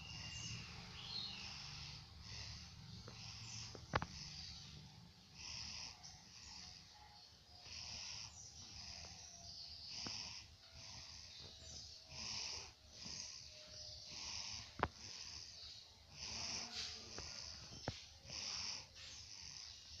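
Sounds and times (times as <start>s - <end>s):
baby snoring: 0.0s - 20.0s.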